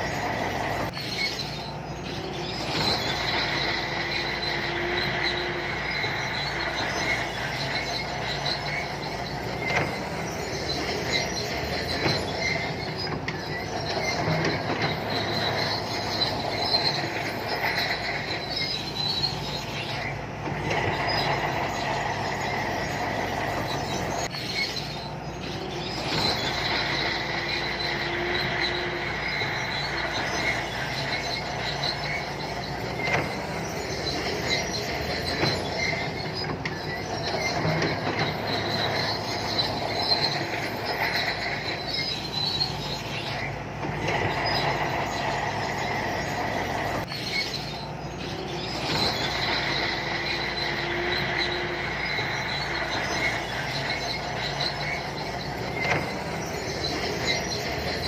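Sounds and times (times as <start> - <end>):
bulldozer diesel engine running: 0.0 - 58.0
steel tracks squealing and clanking: 0.0 - 58.0.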